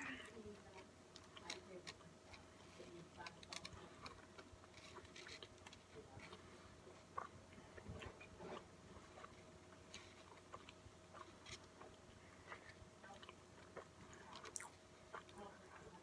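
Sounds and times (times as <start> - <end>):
faint steady hum: 0.0 - 16.0
mouth chewing food: 0.0 - 16.0.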